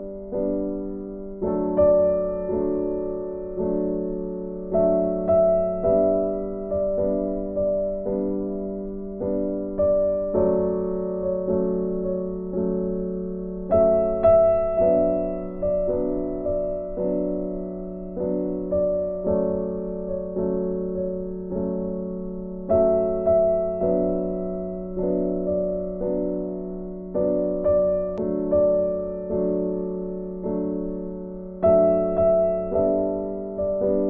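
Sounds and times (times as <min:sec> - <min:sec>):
soft piano piece: 0:00.0 - 0:34.0.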